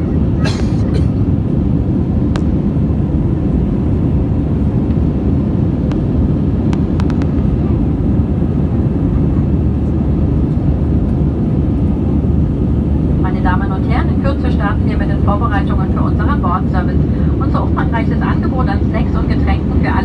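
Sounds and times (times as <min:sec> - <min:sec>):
jet engines and slipstream roar: 0:00.0 - 0:20.0.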